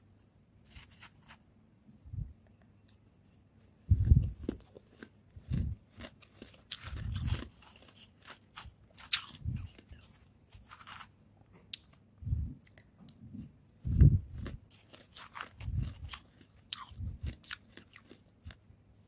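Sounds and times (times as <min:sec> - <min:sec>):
crunching and chewing frost: 0:00.6 - 0:01.4, 0:03.9 - 0:12.0, 0:12.6 - 0:19.0.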